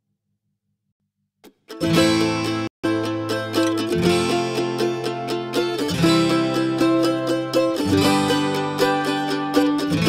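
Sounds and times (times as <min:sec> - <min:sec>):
plucked string music: 0:01.4 - 0:10.0.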